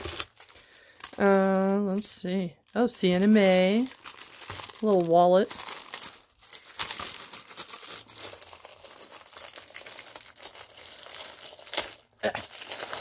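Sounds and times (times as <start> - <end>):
plastic sleeve crinkling: 0.0 - 13.0.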